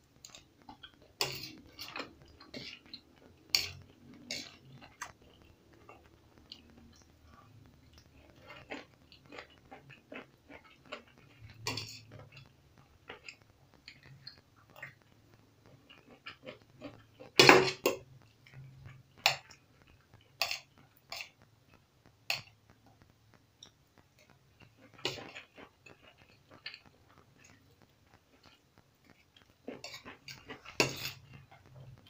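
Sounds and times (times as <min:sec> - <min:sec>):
chewing: 0:00.1 - 0:23.0, 0:23.6 - 0:32.0.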